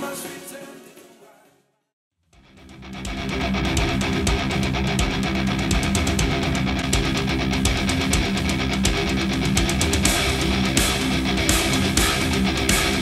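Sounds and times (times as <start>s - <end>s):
rock music over speakers: 2.4s - 13.0s.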